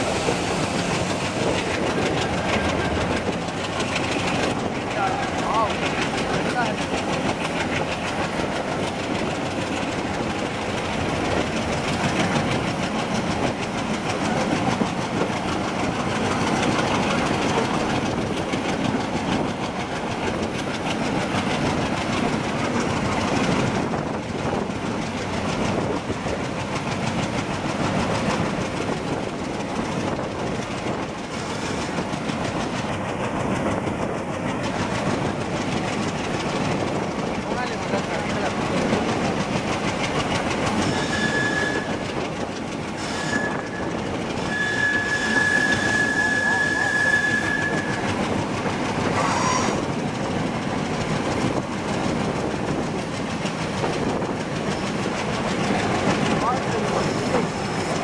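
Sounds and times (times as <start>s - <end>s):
freight train rumbling past: 0.0s - 58.0s
steel wheels clattering on rail: 0.0s - 58.0s.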